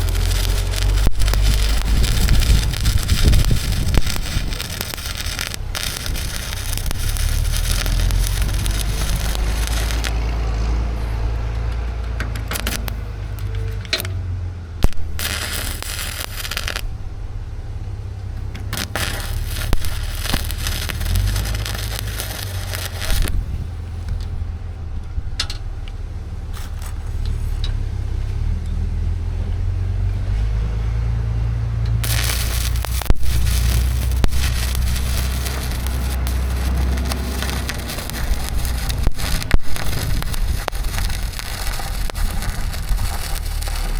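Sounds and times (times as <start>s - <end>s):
welding arc crackling: 0.0s - 14.1s, 14.8s - 17.0s, 18.4s - 24.6s, 26.5s - 27.4s, 32.0s - 43.9s
low hum: 0.0s - 43.9s.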